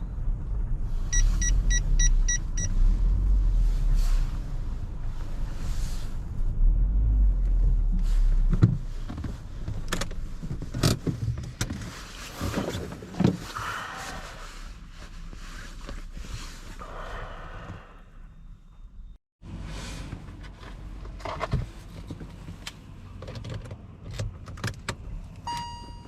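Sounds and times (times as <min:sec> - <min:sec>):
car low rumble: 0:00.0 - 0:26.0.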